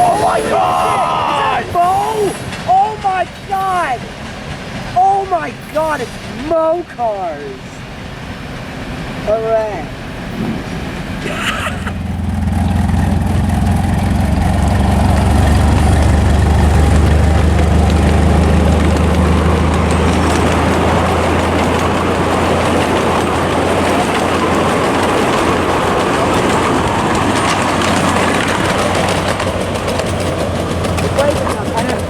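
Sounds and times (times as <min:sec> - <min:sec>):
diesel locomotive engine drone: 0:00.0 - 0:32.0
wheels rushing on rail: 0:00.0 - 0:32.0.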